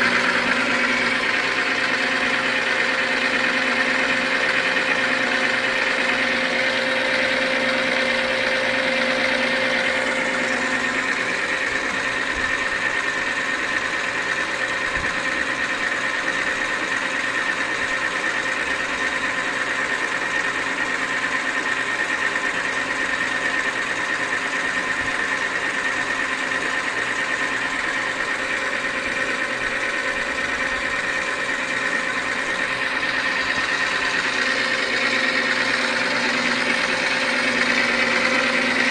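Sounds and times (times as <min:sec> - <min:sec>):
lathe whining: 0:00.0 - 0:38.9.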